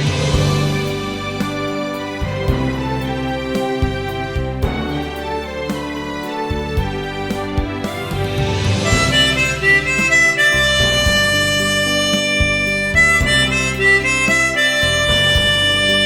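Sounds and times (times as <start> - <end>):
backing accompaniment: 0.0 - 16.0
harmonica slow melody: 0.0 - 16.0.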